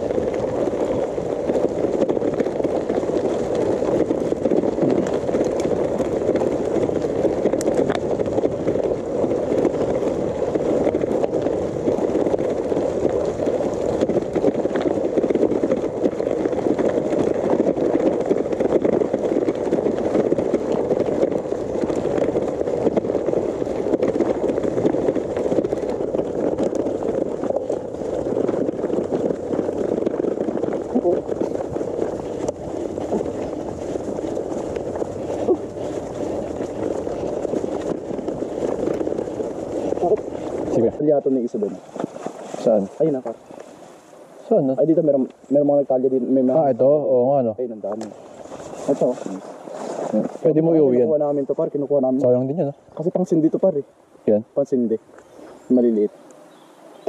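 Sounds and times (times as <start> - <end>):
bike tyres rolling over gravel: 0.0 - 57.0.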